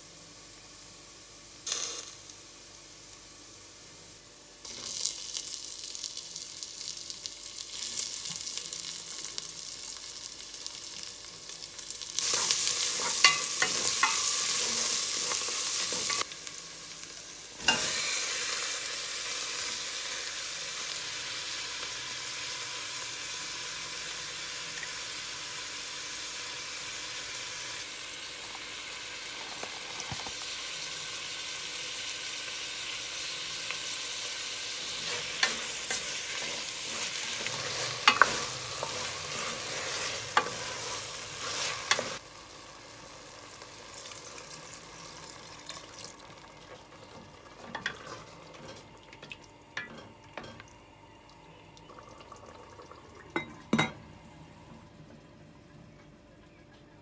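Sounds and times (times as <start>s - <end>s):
food sizzling in oil: 0.3s - 51.5s.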